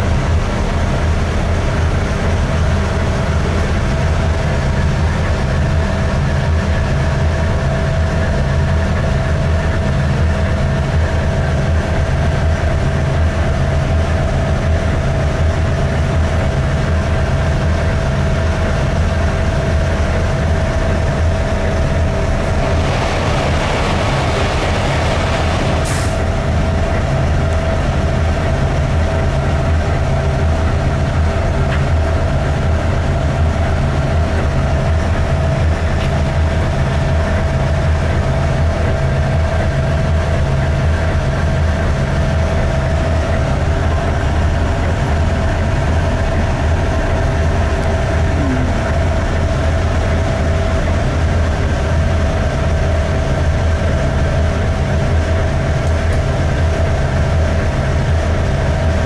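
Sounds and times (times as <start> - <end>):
ship diesel engine running: 0.0 - 59.0
steady engine tone: 0.0 - 59.0.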